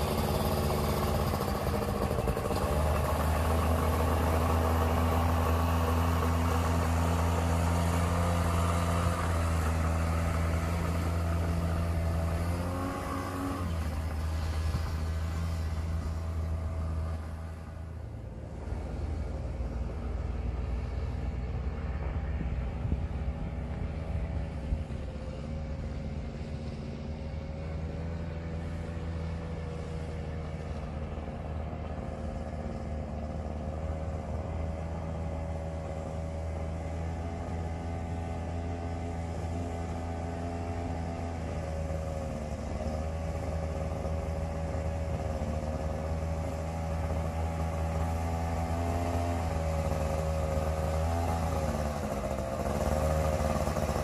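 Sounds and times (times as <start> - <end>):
small aircraft engine running: 0.0 - 54.0.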